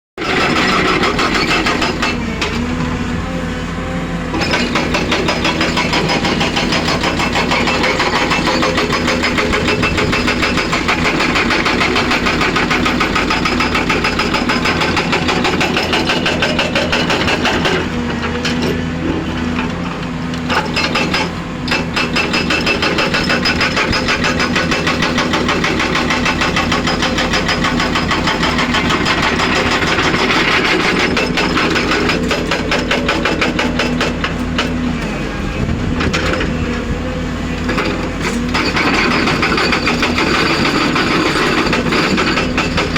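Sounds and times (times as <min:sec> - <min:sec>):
excavator engine running hard: 0:00.2 - 0:42.9.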